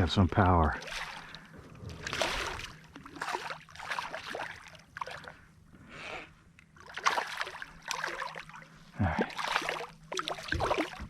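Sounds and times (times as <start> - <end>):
water sloshing and splashing: 0.0 - 5.7, 6.6 - 11.0.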